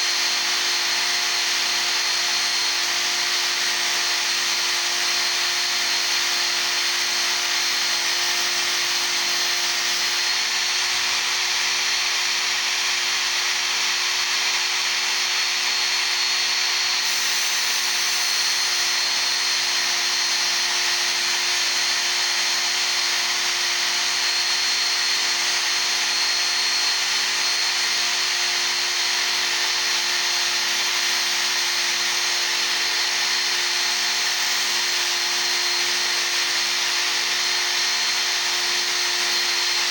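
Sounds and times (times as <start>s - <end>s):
belt sharpener grinding chisel: 0.0s - 39.9s.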